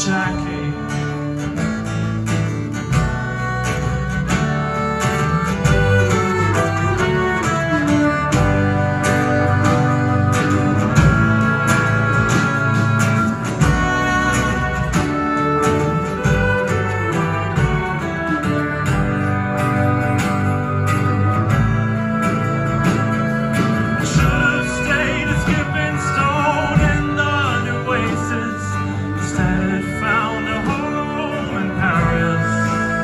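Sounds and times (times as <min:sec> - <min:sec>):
bowed violin: 0:00.0 - 0:33.0
strummed acoustic guitar: 0:00.0 - 0:33.0.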